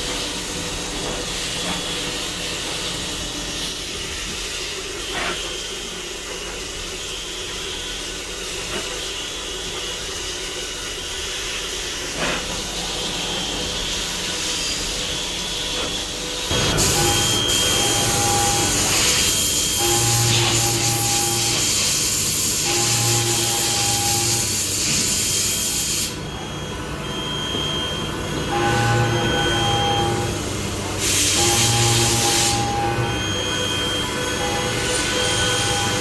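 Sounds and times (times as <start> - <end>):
machine spray hiss: 0.0 - 36.0
machine whining tones: 0.0 - 36.0.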